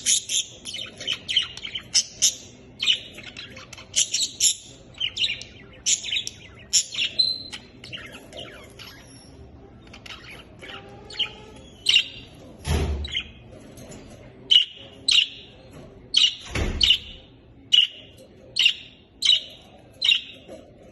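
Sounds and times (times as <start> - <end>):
budgerigars chirping: 0.0 - 12.4, 16.2 - 20.6.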